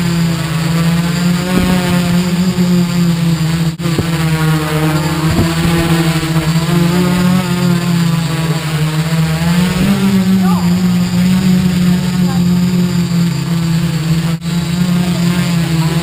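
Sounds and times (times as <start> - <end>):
quadcopter propellers droning: 0.0 - 16.0.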